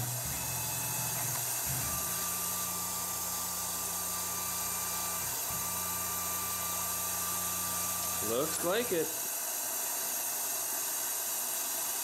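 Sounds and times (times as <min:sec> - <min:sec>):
milling machine spindle hum: 0:00.0 - 0:12.0.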